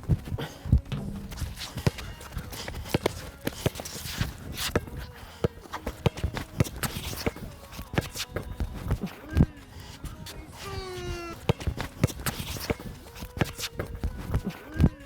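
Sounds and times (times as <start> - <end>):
basketball bouncing: 0.0 - 15.0
sneakers stepping on court: 0.0 - 15.0.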